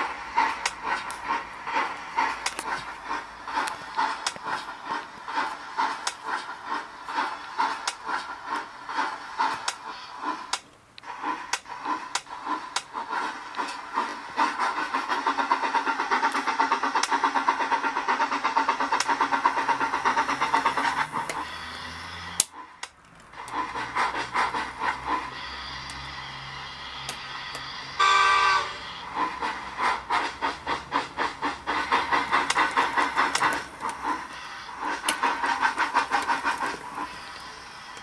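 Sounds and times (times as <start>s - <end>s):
model steam locomotive chuffing: 0.0s - 38.0s.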